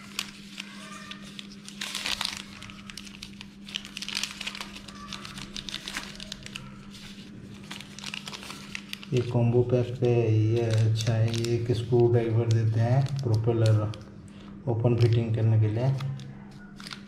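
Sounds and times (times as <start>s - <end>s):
plastic packets crinkling: 0.0s - 17.0s.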